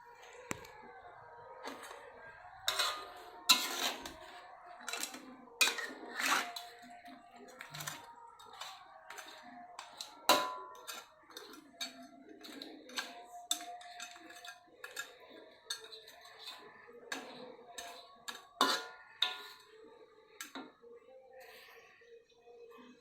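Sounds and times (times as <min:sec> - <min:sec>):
utensils clinking against pots: 0:01.6 - 0:21.8.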